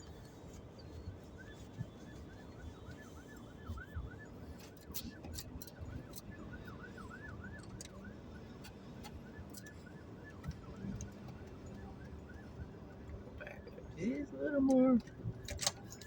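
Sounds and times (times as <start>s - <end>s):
emergency siren yelping: 0.1s - 16.0s.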